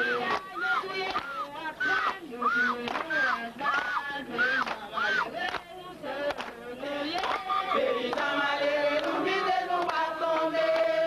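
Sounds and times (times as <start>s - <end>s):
crowd singing in unison: 0.0s - 11.0s.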